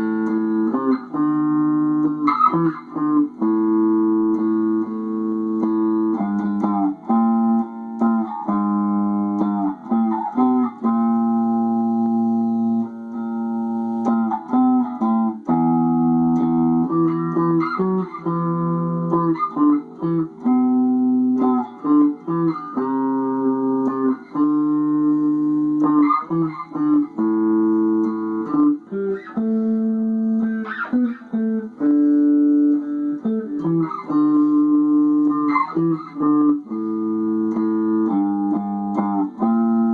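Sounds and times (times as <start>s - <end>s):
held instrumental chords: 0.0s - 39.9s.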